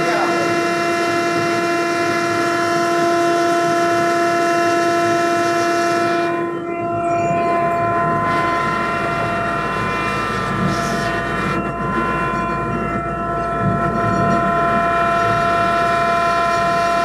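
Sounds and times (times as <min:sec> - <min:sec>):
pulverizer motor whine: 0:00.0 - 0:17.0
wet grinder motor whine: 0:00.0 - 0:17.0.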